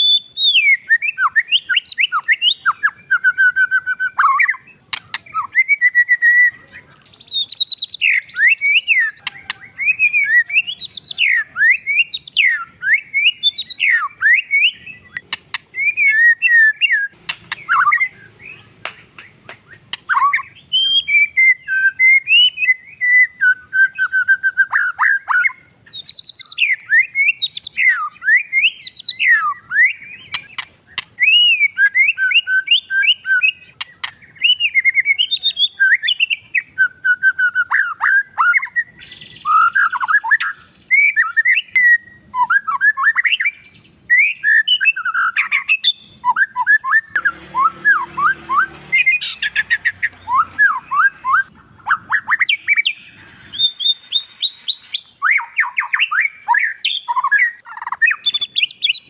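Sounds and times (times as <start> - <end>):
songbird whistling song: 0.0 - 59.0.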